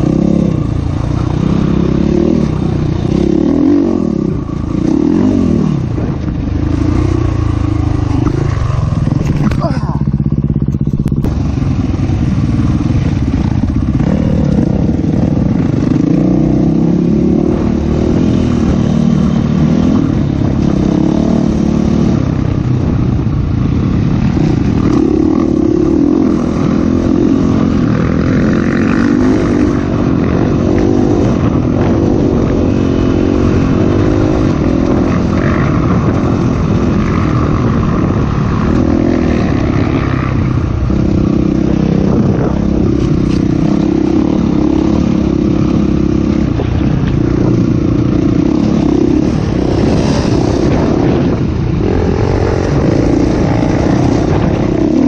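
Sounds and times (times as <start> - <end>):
dirt bike engine running hard: 0.0 - 55.0.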